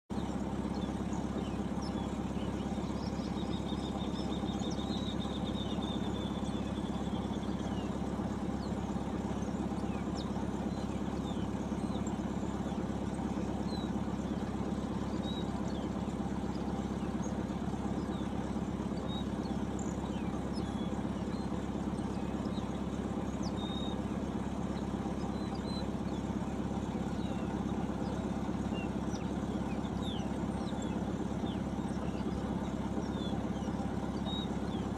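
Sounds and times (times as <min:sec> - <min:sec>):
engine idling: 0:00.0 - 0:34.9
bird trill: 0:00.1 - 0:34.9
small birds chirping: 0:00.1 - 0:34.9.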